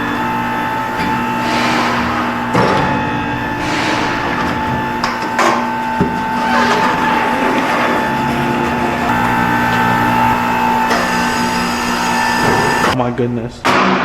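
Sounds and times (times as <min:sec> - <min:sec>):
tire machine humming: 0:00.0 - 0:13.0.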